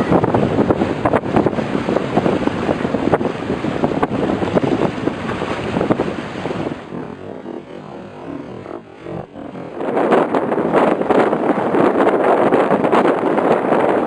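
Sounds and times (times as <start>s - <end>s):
waves washing: 0.0s - 12.2s
wind buffeting microphone: 0.0s - 14.0s.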